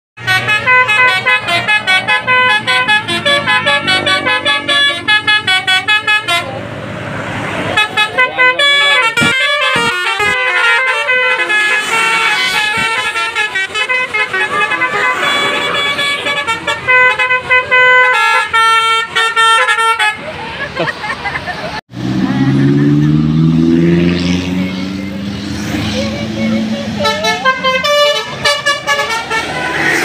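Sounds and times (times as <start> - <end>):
bus horn playing melody: 0.2 - 6.6, 7.6 - 20.4, 23.6 - 30.0.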